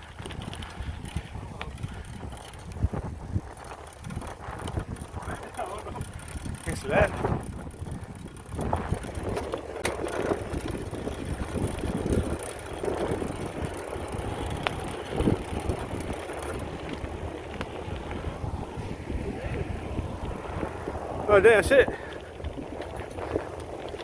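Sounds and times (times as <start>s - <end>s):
bicycle tyres rumbling on dirt: 0.0s - 24.0s
bike rattling over bumps: 0.0s - 24.0s.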